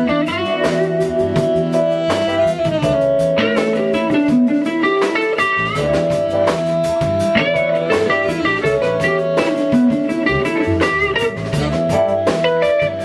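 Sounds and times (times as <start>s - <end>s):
bass: 0.0s - 13.0s
drums: 0.0s - 13.0s
electric guitar bending notes: 0.0s - 13.0s.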